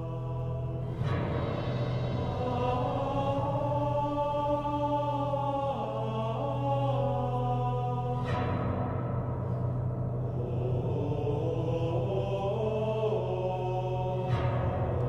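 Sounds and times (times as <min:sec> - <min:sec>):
chanting voices: 0:00.0 - 0:15.0
low drone: 0:00.0 - 0:15.0.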